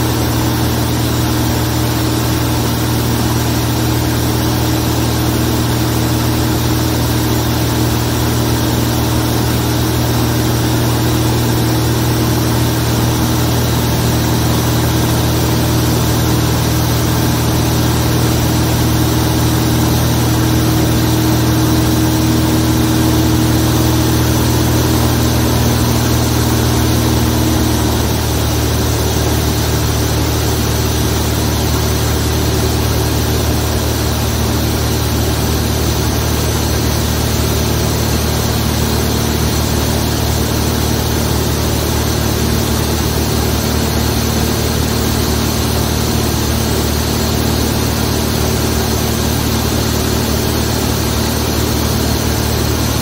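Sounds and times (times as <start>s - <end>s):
light aircraft engine and propeller: 0.0s - 53.0s.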